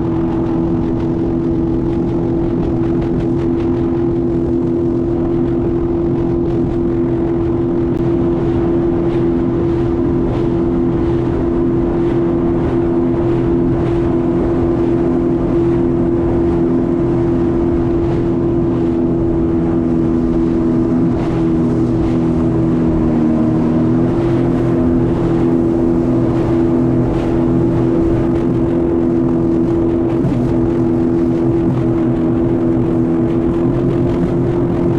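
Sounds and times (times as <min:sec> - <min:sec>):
jet ski engine drone: 0:00.0 - 0:34.9.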